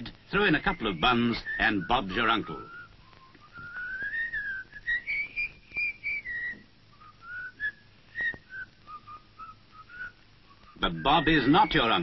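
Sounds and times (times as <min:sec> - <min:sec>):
person whistling a tune: 0:00.5 - 0:12.0.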